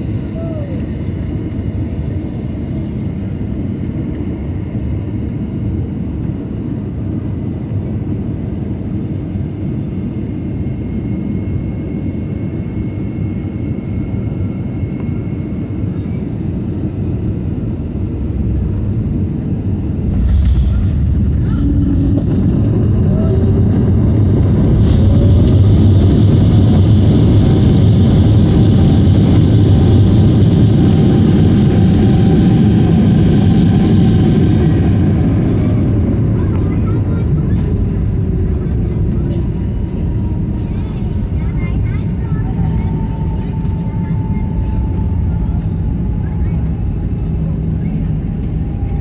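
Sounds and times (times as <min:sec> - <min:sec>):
airplane cabin engine rumble: 0:00.0 - 0:49.0.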